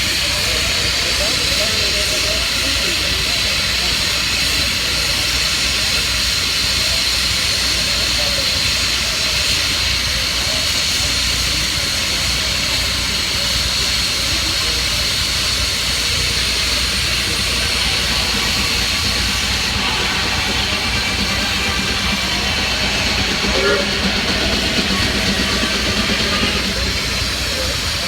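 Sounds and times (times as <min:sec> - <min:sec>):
steam engine hissing: 0:00.0 - 0:28.0.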